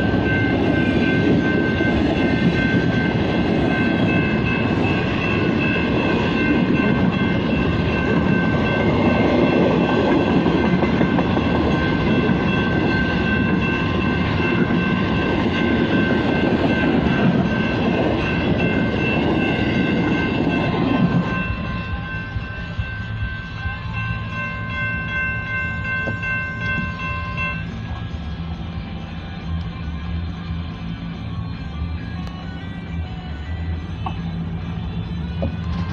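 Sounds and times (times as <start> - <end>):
freight train wheels rumbling: 0.0 - 35.9
thin high ringing tones: 0.0 - 35.9.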